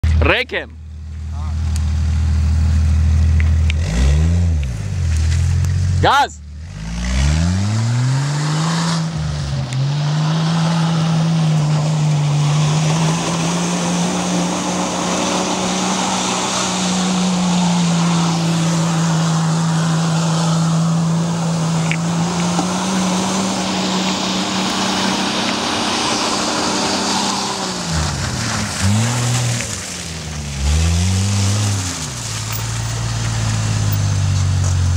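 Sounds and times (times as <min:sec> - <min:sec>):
engine revving high: 0:03.7 - 0:04.9, 0:06.6 - 0:34.2.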